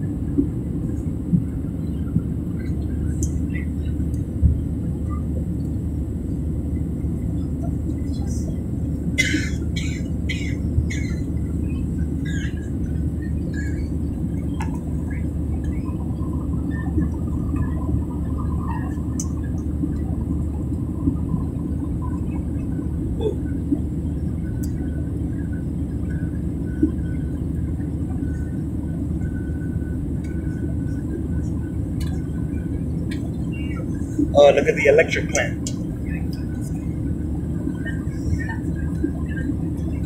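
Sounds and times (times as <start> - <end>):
jet engine and airflow in cabin: 0.0 - 40.0.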